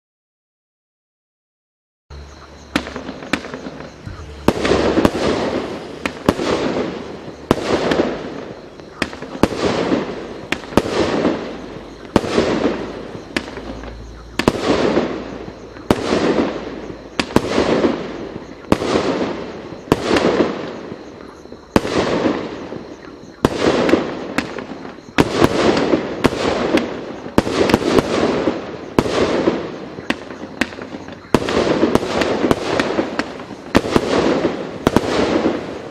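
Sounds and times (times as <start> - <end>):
fireworks bangs with crackle: 2.6 - 35.9.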